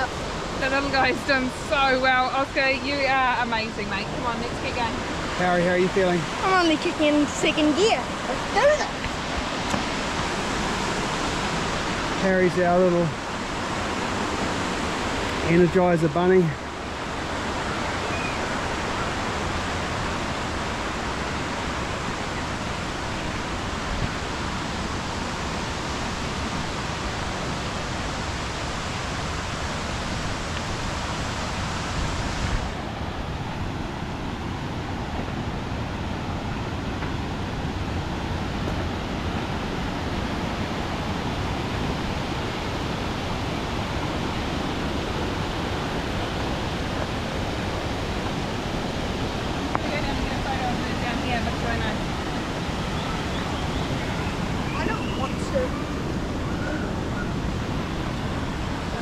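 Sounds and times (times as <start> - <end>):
river water rushing over cascades: 0.0 - 59.0.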